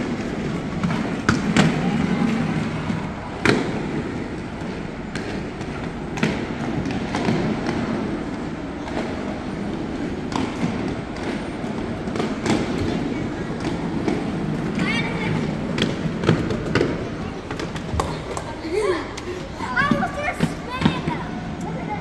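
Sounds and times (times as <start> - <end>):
skate wheels rolling: 0.0 - 22.0.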